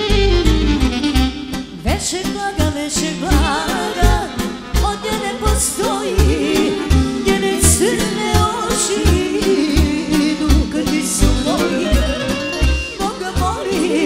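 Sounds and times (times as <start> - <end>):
live band music: 0.0 - 14.0
woman singing with vibrato: 1.8 - 14.0.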